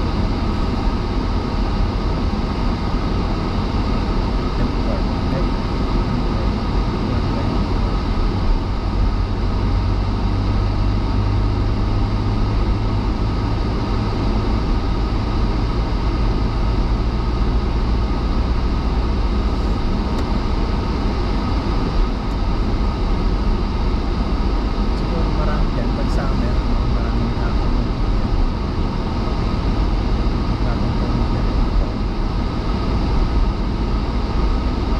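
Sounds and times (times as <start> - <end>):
car driving on snowy road: 0.0 - 34.9.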